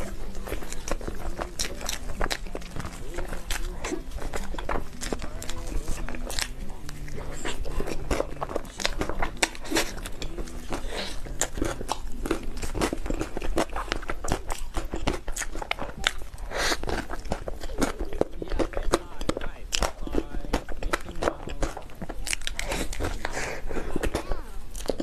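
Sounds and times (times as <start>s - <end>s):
chewing cake: 0.0s - 25.0s.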